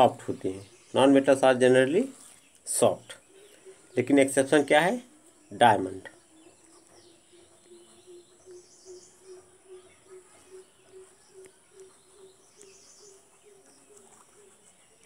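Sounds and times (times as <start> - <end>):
low repeated bird call: 0.0 - 15.0
thin high bird chirps: 0.6 - 15.0.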